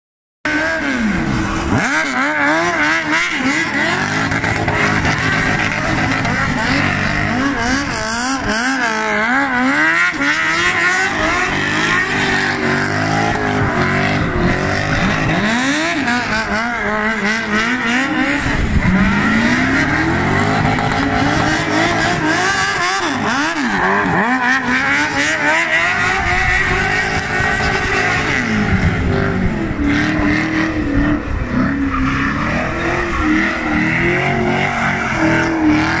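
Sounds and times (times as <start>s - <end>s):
car engines revving: 0.5s - 36.0s.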